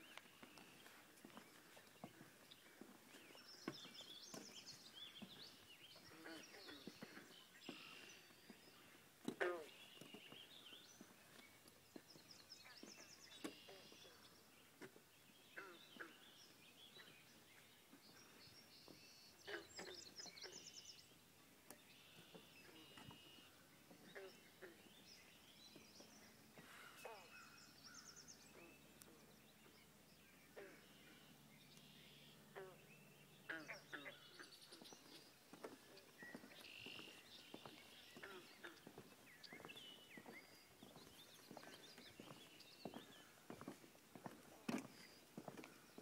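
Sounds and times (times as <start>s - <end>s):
birds chirping and trilling: 0.0s - 46.0s.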